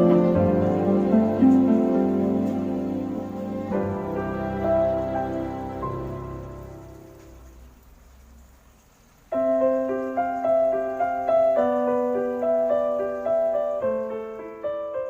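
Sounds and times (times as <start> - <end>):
gentle piano melody: 0.0 - 8.1, 9.3 - 15.0
rain-like hiss: 0.0 - 15.0.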